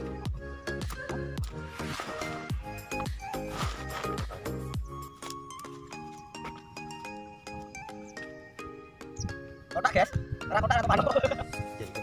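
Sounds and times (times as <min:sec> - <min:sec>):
light background melody: 0:00.0 - 0:12.0.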